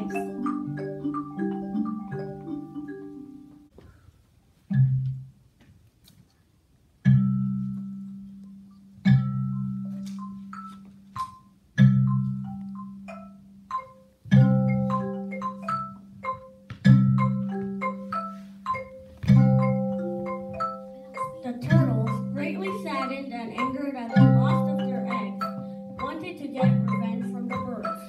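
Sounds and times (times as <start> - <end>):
tuned mallet percussion music: 0.0 - 3.8, 4.7 - 5.4, 7.0 - 28.0.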